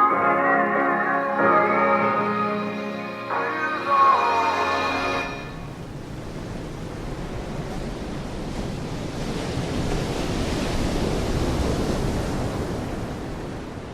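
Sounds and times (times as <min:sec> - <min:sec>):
sea surf washing on shore: 0:01.3 - 0:13.9.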